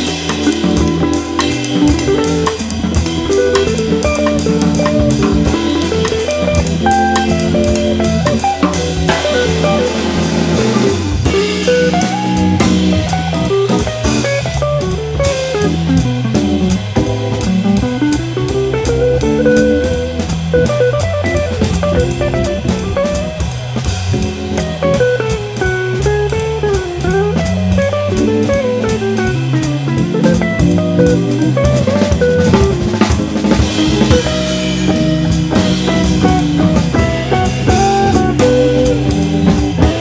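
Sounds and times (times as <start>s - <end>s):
bass: 0.0s - 40.0s
drum kit cymbals: 0.0s - 40.0s
electric guitar melody: 0.0s - 40.0s
organ chords: 0.0s - 40.0s.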